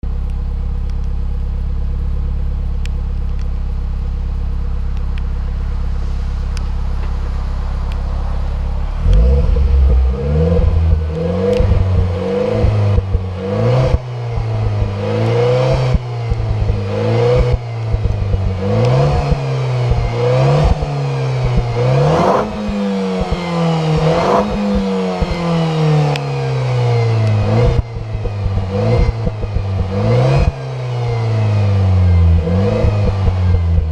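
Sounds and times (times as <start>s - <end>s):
car engine idling and revving: 0.0s - 33.9s
exhaust cracks: 0.0s - 33.9s.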